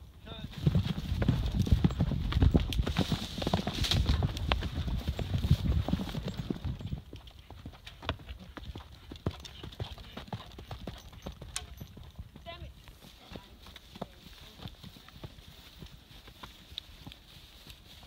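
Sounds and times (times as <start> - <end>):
horse hooves clip-clopping: 0.5 - 18.0.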